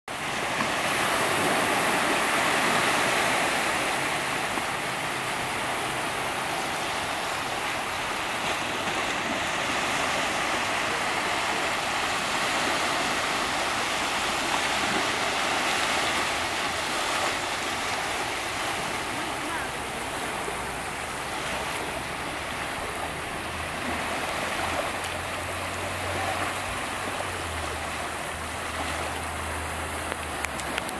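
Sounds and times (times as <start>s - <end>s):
water rushing: 0.1s - 30.9s.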